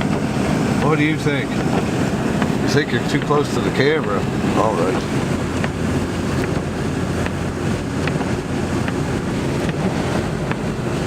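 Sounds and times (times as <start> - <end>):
car engine and tyre rumble: 0.0 - 11.0
heater fan rush: 0.0 - 11.0.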